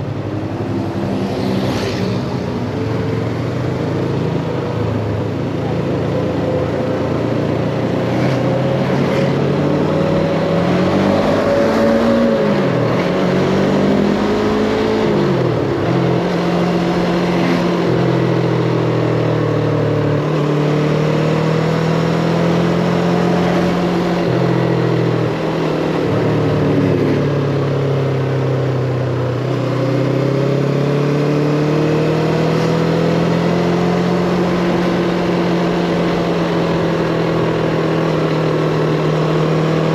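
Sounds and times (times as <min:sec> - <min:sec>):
wind and road noise: 0:00.0 - 0:39.9
motorcycle engine revving: 0:00.6 - 0:39.9.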